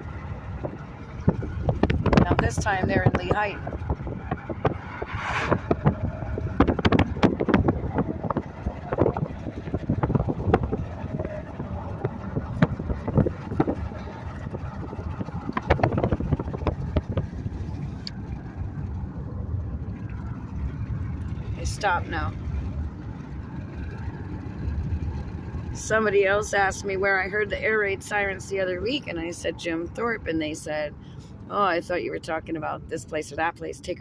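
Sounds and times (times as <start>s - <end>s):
road and engine rumble: 0.0s - 34.0s.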